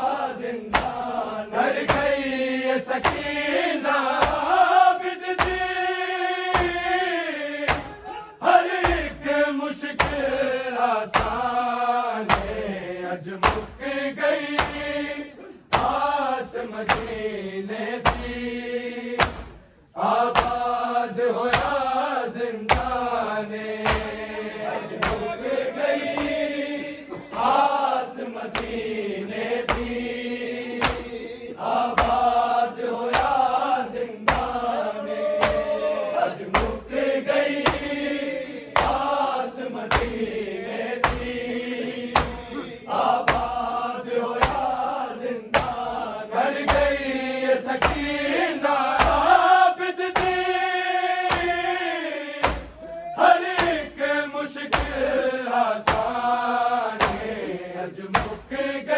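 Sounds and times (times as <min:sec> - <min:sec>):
group of men chanting: 0:00.0 - 0:58.9
rhythmic chest slaps: 0:00.0 - 0:58.9.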